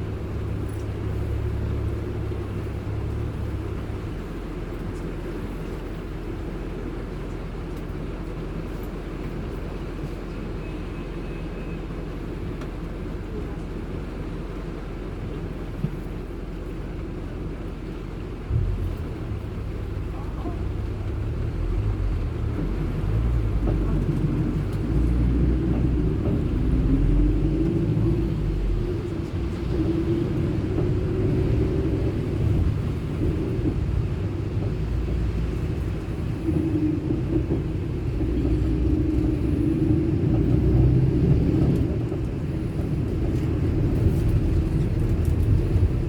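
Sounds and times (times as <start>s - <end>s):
car driving on road: 0.0s - 46.0s.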